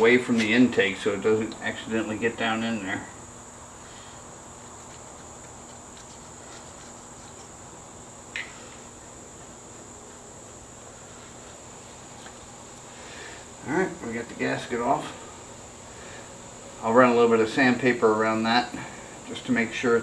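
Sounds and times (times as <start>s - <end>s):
cricket trilling: 0.0s - 20.0s
faint hum: 0.0s - 20.0s.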